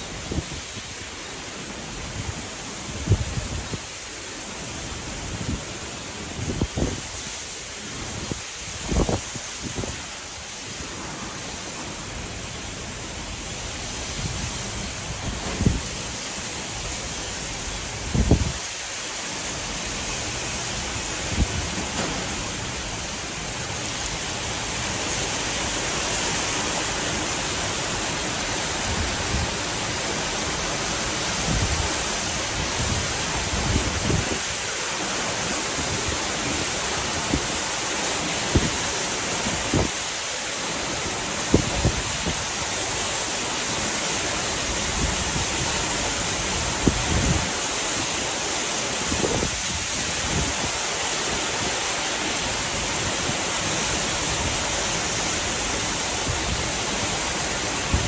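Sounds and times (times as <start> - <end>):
rain pouring: 0.0 - 58.0.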